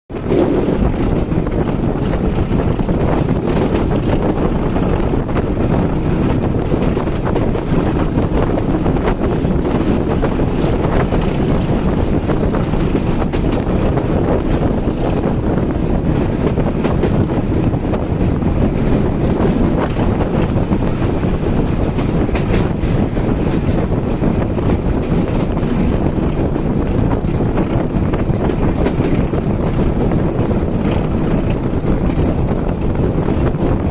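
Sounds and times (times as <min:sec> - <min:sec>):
train carriage rumbling on track: 0:00.1 - 0:33.9
wind buffeting microphone: 0:00.1 - 0:33.9.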